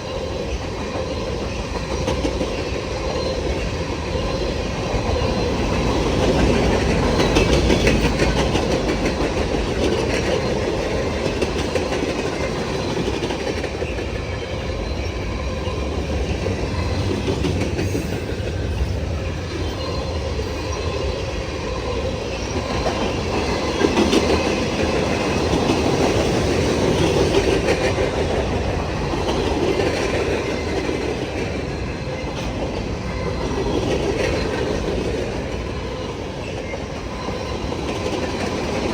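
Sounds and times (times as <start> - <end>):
freight train rolling past: 0.0 - 38.9.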